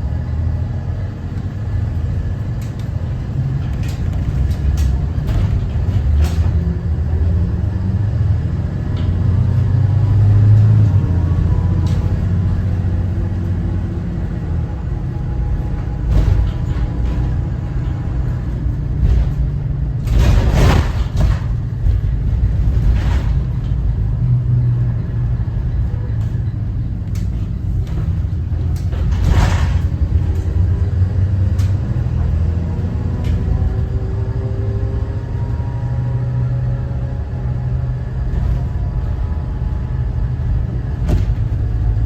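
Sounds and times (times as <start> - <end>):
diesel bus engine rumble: 0.0 - 42.0.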